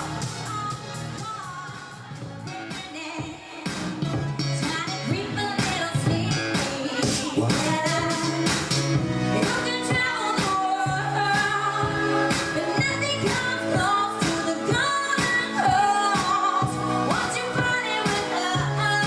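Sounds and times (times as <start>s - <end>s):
backing track with steady beat: 0.0s - 19.0s
woman singing pop song: 0.0s - 19.0s.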